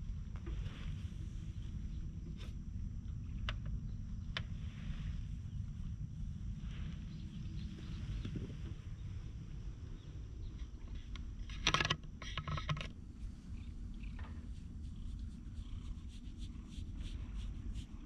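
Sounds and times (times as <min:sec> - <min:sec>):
wind and handling rumble: 0:00.0 - 0:18.0.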